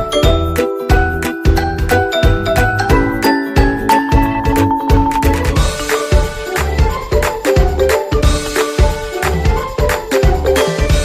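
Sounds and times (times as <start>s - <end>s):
upbeat music with drum beat: 0.0s - 11.0s.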